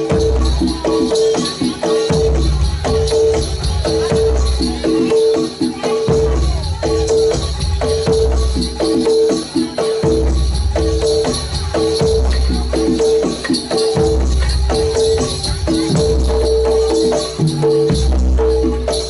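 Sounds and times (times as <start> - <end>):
drum and rattle strokes: 0.0 - 19.0
gamelan music over sound system: 0.0 - 19.0.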